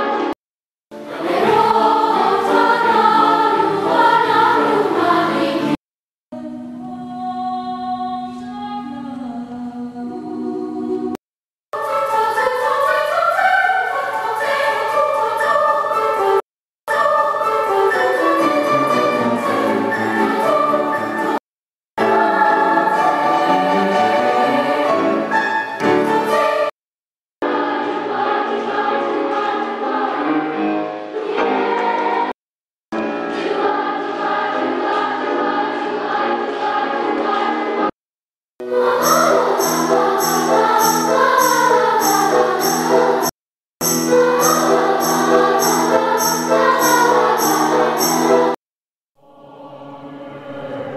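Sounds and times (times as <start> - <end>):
choir singing: 1.0 - 5.8, 6.4 - 11.2, 11.8 - 21.4, 22.0 - 26.8, 27.4 - 32.4, 33.0 - 38.0, 38.6 - 48.6, 49.2 - 50.9.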